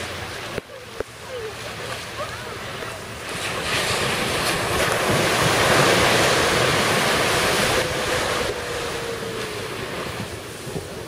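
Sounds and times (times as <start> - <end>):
wave breaking and rushing in: 1.6 - 11.0.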